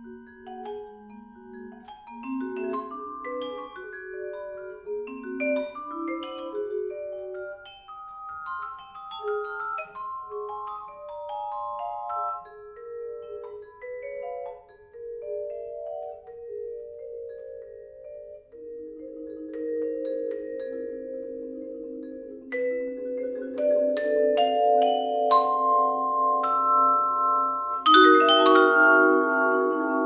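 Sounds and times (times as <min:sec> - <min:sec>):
vibraphone and marimbas playing: 0:00.0 - 0:30.0.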